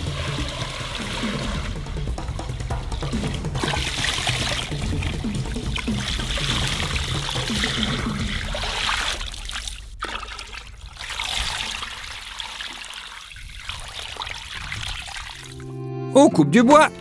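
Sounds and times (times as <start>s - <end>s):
water pouring and trickling: 0.0s - 15.7s.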